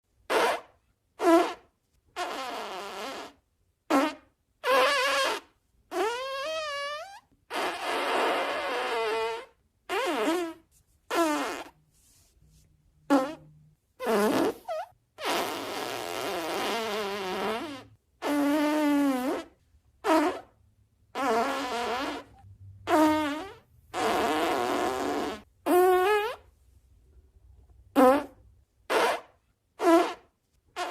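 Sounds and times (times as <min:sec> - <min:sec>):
fart sounds: 0:00.2 - 0:11.8, 0:13.1 - 0:26.5, 0:27.9 - 0:30.9.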